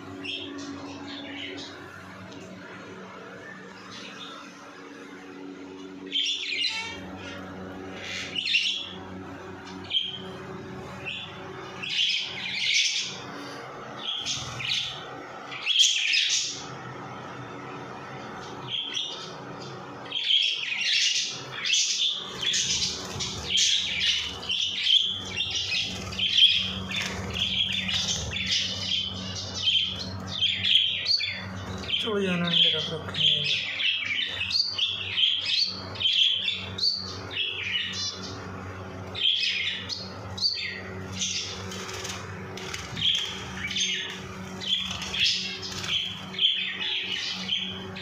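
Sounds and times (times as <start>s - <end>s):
cage birds chirping and squawking: 0.0s - 48.0s.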